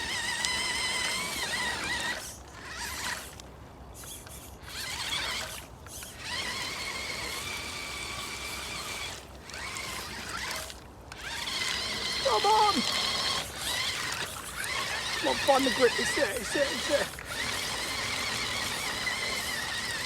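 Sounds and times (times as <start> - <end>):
electric motor whining: 0.0 - 3.4, 4.0 - 20.0.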